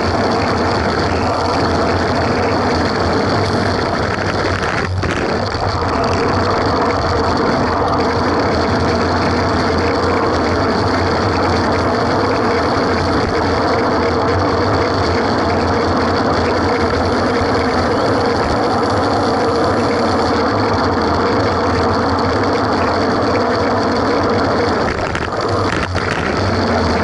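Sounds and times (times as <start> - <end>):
tyres on asphalt: 0.0 - 27.0
wind rush on microphone: 0.0 - 27.0.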